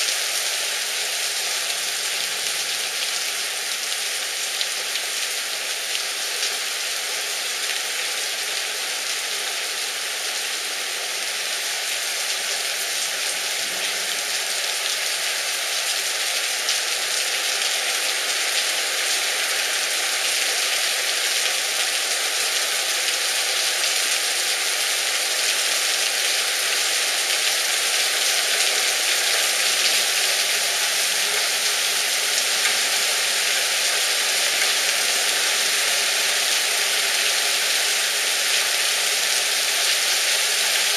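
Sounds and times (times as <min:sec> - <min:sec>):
torrential rain pouring: 0:00.0 - 0:40.9.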